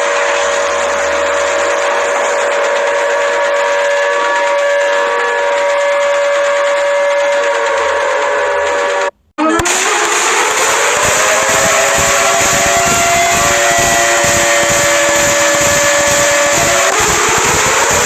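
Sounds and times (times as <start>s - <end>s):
steady alarm chord: 0.0s - 18.0s.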